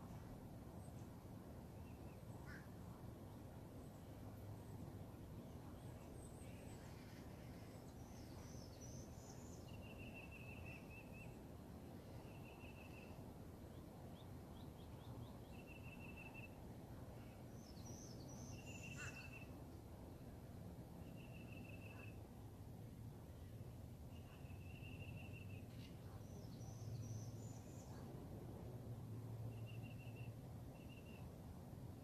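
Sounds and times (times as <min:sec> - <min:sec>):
low background noise: 0:00.0 - 0:32.0.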